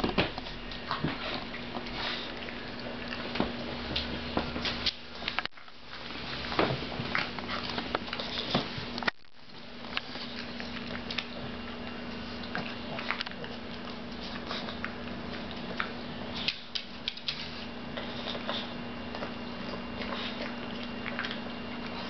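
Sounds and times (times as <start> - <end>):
dog chewing and lip-smacking: 0.0 - 22.0
steady low hum: 0.0 - 22.0.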